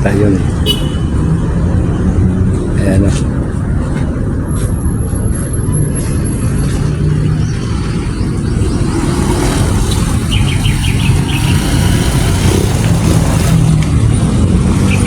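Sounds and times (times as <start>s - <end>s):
vehicle engines rumbling: 0.0s - 15.0s.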